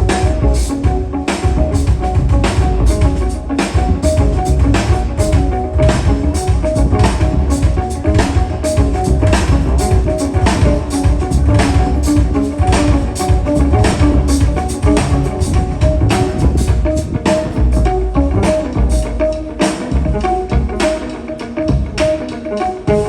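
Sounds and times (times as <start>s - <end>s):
jazz drums: 0.0s - 21.1s, 21.7s - 22.3s
bass: 0.0s - 22.3s.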